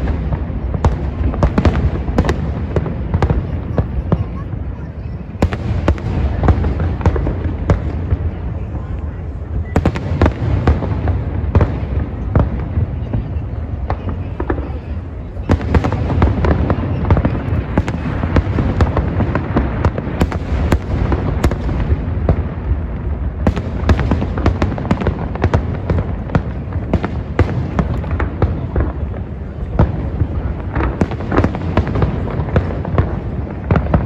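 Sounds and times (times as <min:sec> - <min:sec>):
fireworks bursts and crackling: 0:00.0 - 0:34.0.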